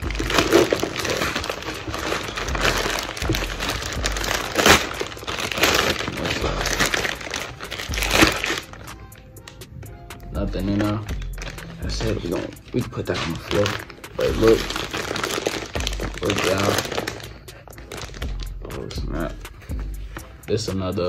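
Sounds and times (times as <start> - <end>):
plastic bag crinkling and tearing: 0.0 - 9.2, 10.7 - 18.5.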